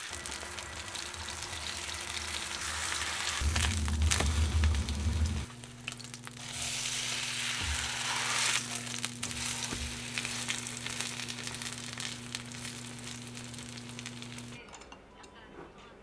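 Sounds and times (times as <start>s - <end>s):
food frying in hot oil: 0.0s - 14.6s
low hum: 0.0s - 14.6s.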